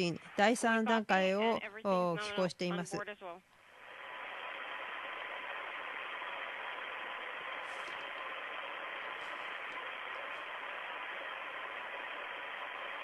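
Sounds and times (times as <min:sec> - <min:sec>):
audio feed hiss: 0:00.0 - 0:13.0
faint steady tones: 0:00.0 - 0:13.0.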